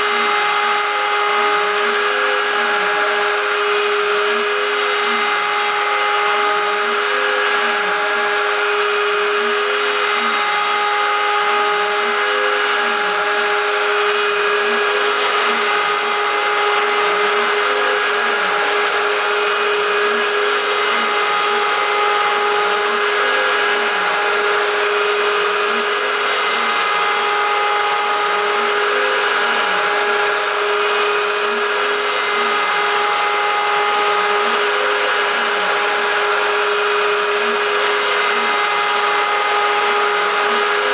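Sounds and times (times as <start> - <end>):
router spindle milling metal: 0.0 - 40.9.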